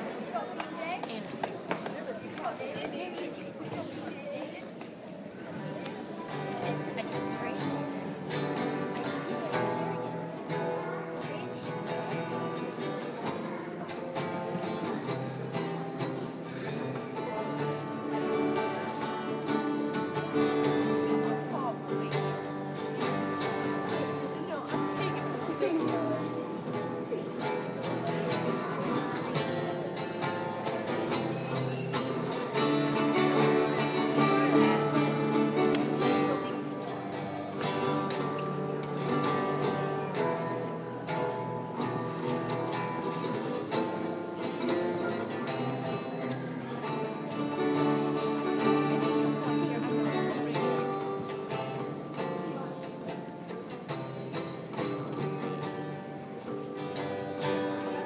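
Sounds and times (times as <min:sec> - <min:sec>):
acoustic guitars playing: 0:02.4 - 0:58.0.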